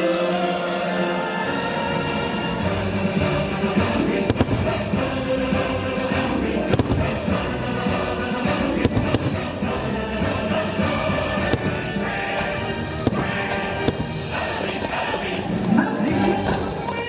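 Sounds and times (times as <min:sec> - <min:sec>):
loud show music: 0:00.0 - 0:17.0
fireworks bangs: 0:02.8 - 0:16.9.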